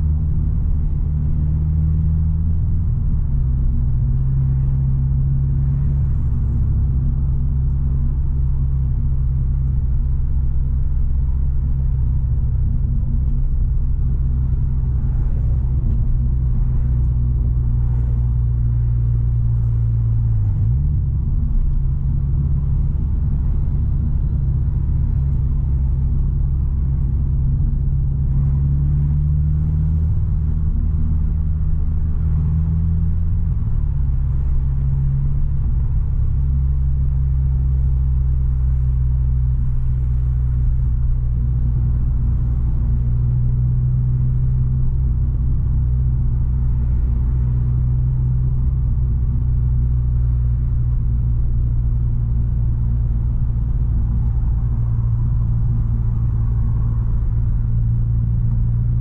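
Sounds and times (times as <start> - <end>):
car engine and exhaust droning: 0.0 - 59.0.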